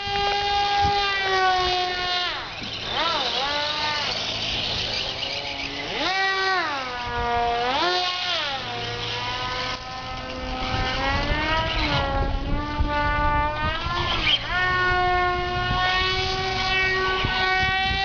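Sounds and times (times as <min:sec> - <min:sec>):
electric motor and propeller whine: 0:00.0 - 0:18.0
wind rumbling on microphone: 0:00.0 - 0:18.0.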